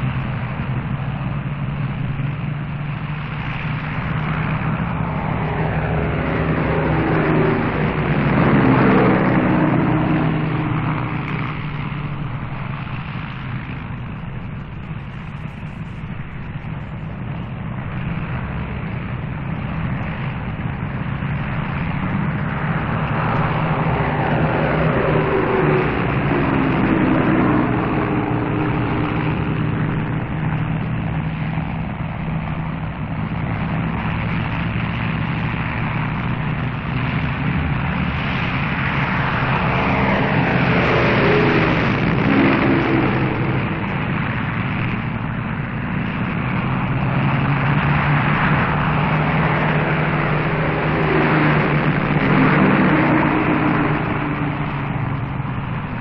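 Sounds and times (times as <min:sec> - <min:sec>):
propeller aircraft engines drone: 0:00.0 - 0:56.0.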